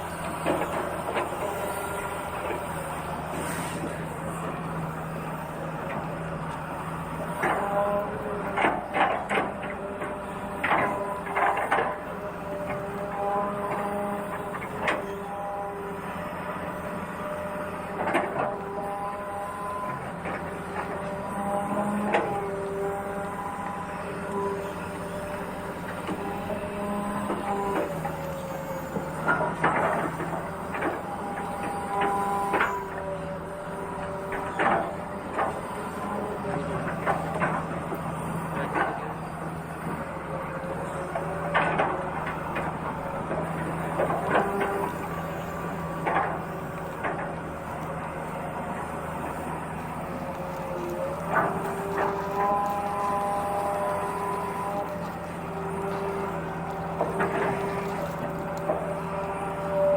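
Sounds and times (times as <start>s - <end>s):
small electric motors whining: 0.0s - 59.9s.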